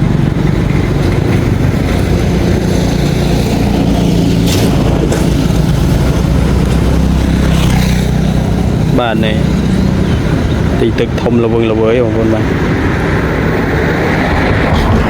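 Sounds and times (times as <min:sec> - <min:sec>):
floodwater rushing: 0:00.0 - 0:15.0
low hum: 0:00.0 - 0:15.0.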